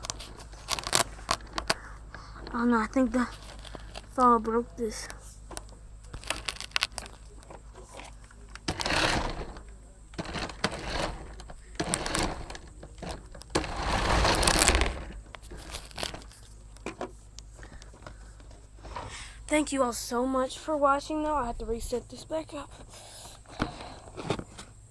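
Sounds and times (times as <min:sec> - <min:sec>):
handling noise rustling and scraping: 0:00.0 - 0:19.4, 0:20.0 - 0:24.9.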